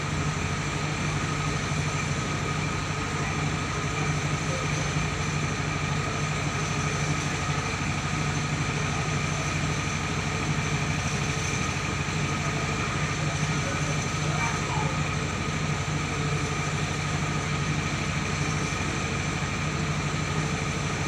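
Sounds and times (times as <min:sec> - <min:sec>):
engine humming: 0:00.0 - 0:21.0
milling machinery whine: 0:00.0 - 0:21.0.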